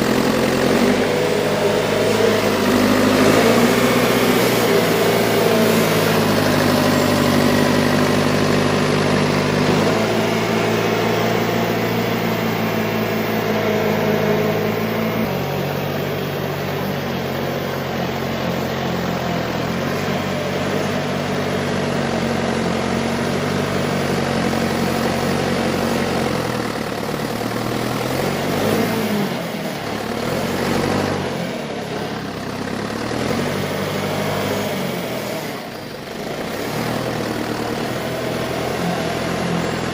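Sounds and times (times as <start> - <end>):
loader backhoe engine idling: 0.0 - 39.9.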